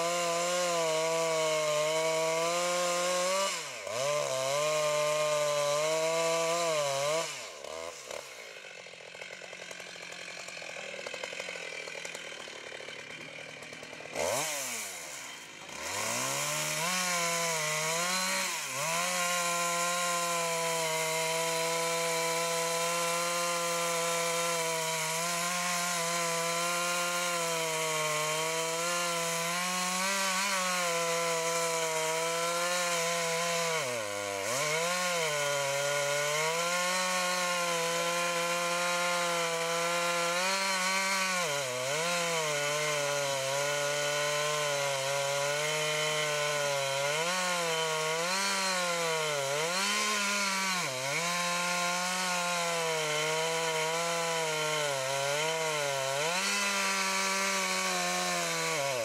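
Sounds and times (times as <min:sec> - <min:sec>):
chainsaw cutting wood at full throttle: 0:00.0 - 0:59.0.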